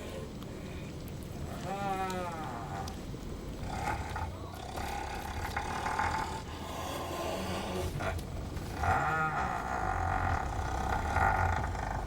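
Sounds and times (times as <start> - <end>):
low rumbling background: 0.0 - 12.0.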